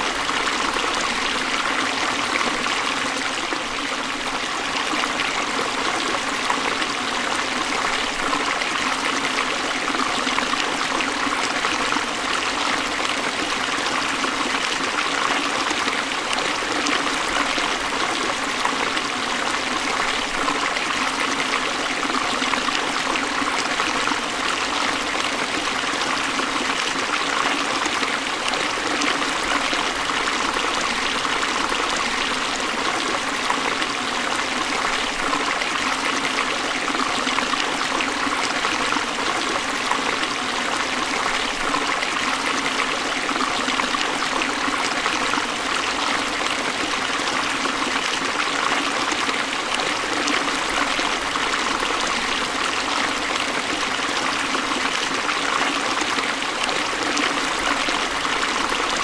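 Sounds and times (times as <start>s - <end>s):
stream splashing over rocks: 0.0s - 59.0s.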